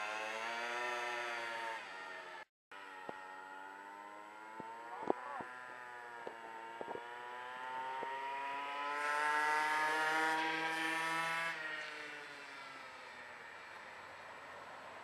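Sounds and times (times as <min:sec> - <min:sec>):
scooter engine riding past: 0:00.0 - 0:15.0.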